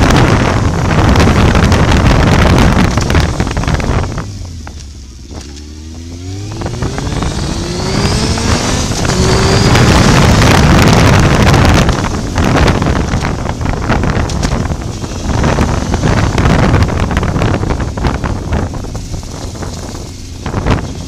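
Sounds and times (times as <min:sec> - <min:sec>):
motorcycle engine accelerating: 0:00.0 - 0:21.0
wind buffeting microphone: 0:00.0 - 0:21.0.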